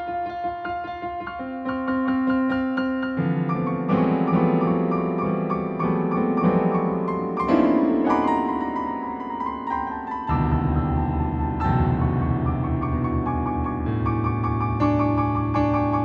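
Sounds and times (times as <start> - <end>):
piano-like keyboard chords: 0.0 - 16.0.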